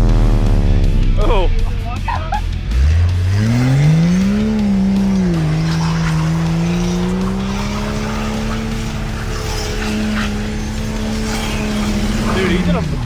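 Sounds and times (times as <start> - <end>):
tires spinning in snow: 0.0 - 13.0
truck engine revving hard: 0.0 - 13.0.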